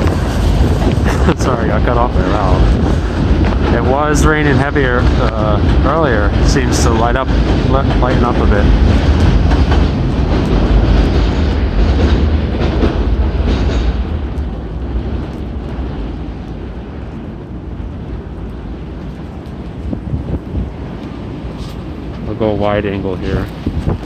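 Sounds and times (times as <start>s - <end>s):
storm wind buffeting microphone: 0.0s - 24.0s.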